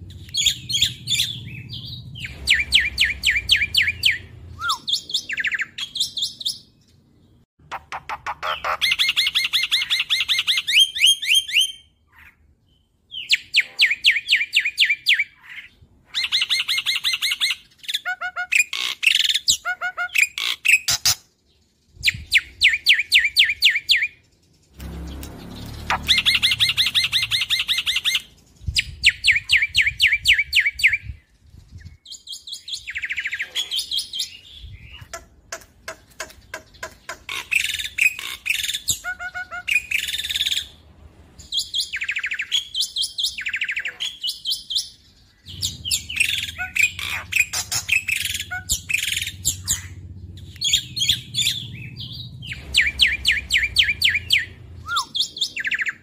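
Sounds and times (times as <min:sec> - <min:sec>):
starling singing high chirps: 0:00.1 - 0:06.8, 0:07.7 - 0:35.3, 0:41.4 - 0:56.0.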